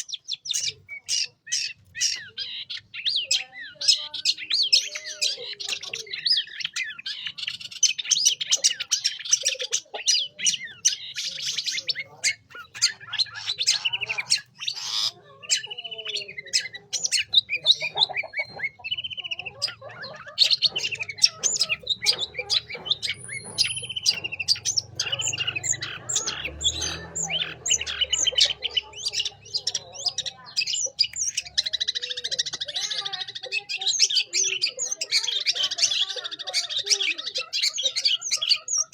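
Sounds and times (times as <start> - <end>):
bird harsh squawks: 0.0 - 38.9
bird song chattering: 0.0 - 38.9.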